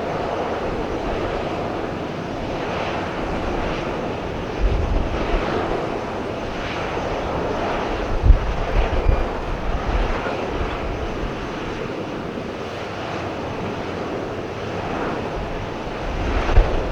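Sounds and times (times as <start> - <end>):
jet engines roaring: 0.0 - 16.9
wind rumbling on microphone: 0.0 - 16.9.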